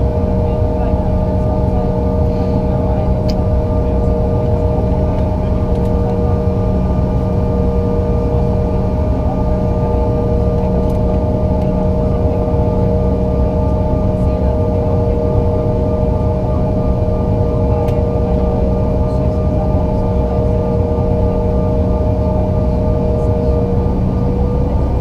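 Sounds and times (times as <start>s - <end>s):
jet engine drone in cabin: 0.0s - 25.0s.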